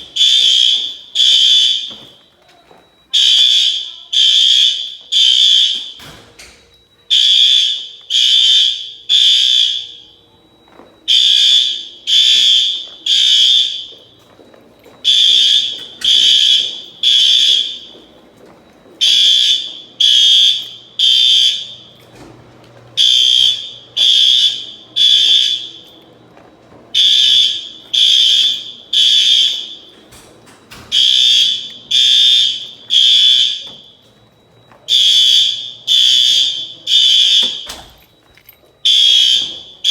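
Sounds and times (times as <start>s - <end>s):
fire alarm blasts: 0.0s - 39.9s.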